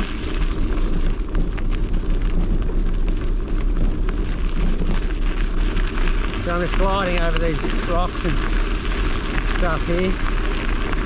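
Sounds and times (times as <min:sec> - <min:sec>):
small ticks of stones: 0:00.0 - 0:11.0
tyres rolling over gravel: 0:00.0 - 0:11.0.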